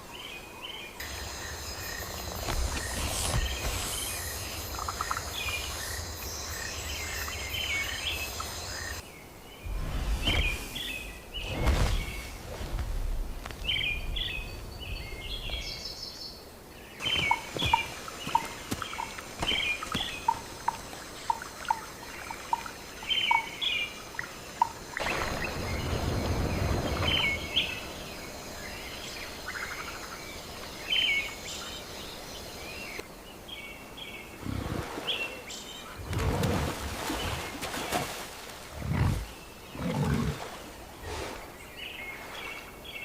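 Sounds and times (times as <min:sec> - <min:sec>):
small birds chirping: 0:00.0 - 0:36.2.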